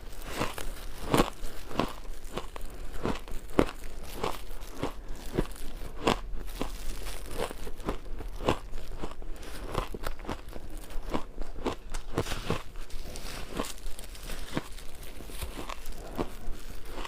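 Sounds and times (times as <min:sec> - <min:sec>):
ice crunching between teeth: 0:00.0 - 0:17.0.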